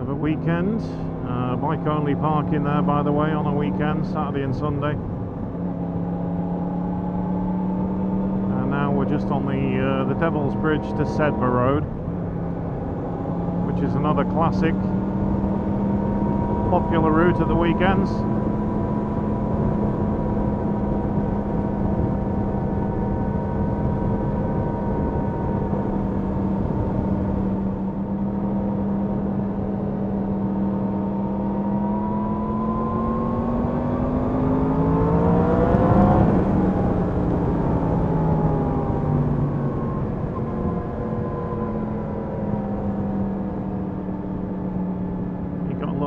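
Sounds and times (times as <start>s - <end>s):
wind and road rush: 0.0s - 46.0s.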